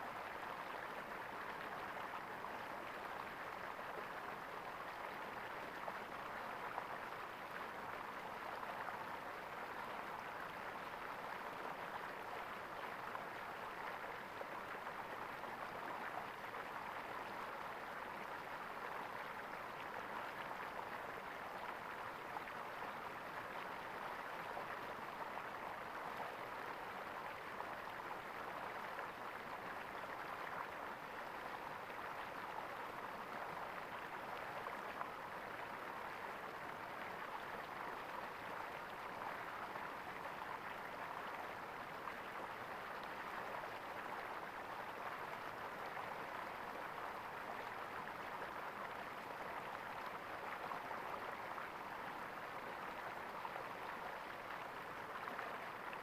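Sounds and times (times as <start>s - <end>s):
stream gurgling over rocks: 0.0s - 56.0s.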